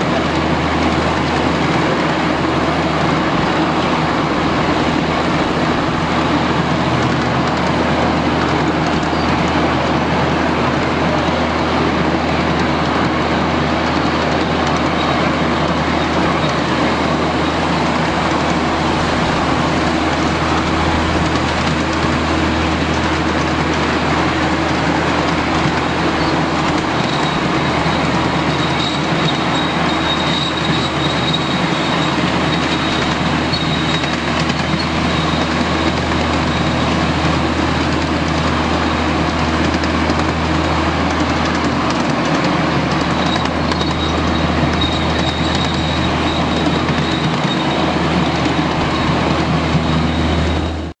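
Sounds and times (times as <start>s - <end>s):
train wheels rumbling on rail: 0.0s - 51.0s
high wheel squeal: 0.8s - 9.7s, 11.0s - 50.9s.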